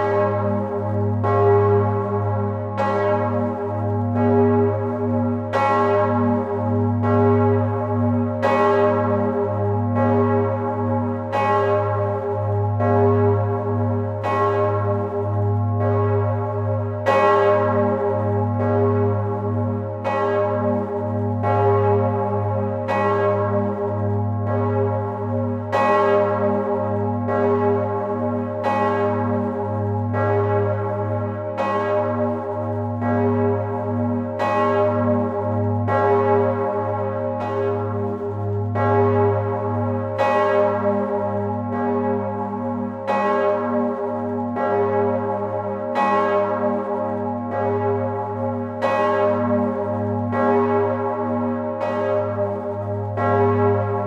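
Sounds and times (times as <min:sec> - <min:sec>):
large church bells pealing: 0:00.0 - 0:54.0.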